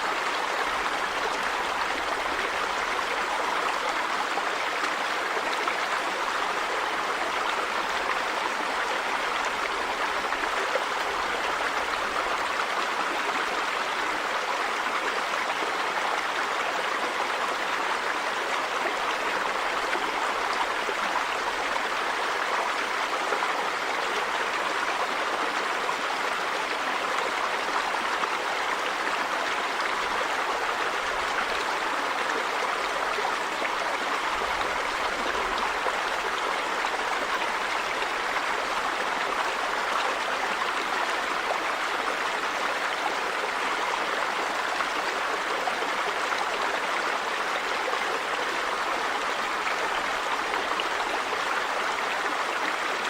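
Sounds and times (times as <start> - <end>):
river water running over stones: 0.0 - 53.0.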